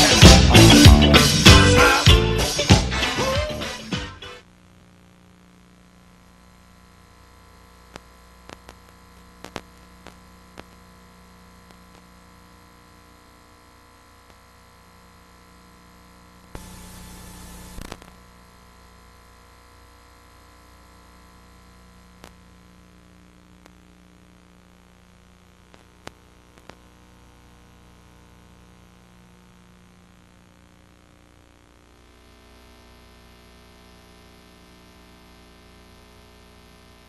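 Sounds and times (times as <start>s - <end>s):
burst of static: 0.0s - 37.0s
faint tape hiss: 0.0s - 37.0s
mains hum: 0.0s - 37.0s.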